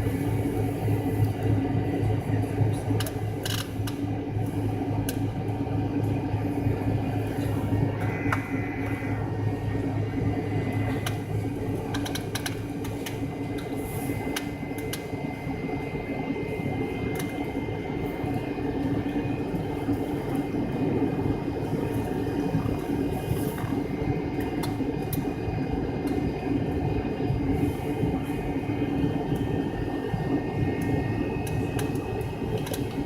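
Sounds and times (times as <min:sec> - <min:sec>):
airplane cabin engine hum: 0:00.0 - 0:33.0.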